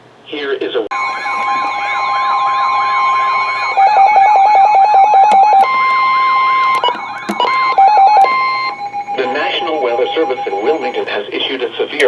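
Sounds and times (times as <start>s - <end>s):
rapid beeps: 0.9s - 11.5s
warbling siren alarm: 0.9s - 11.6s
steady warning tone: 0.9s - 12.0s.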